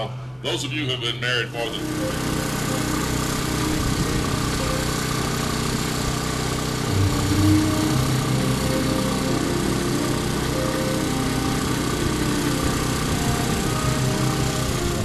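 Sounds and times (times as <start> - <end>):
propeller airplane engine droning: 0.0 - 15.0.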